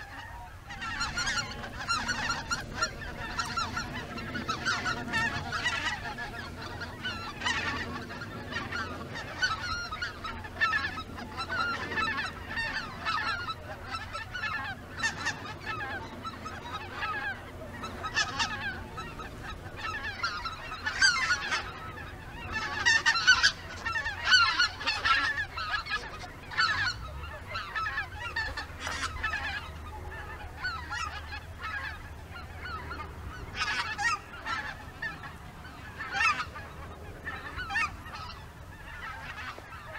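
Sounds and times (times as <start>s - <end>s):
geese calling in flight: 0.0s - 39.9s.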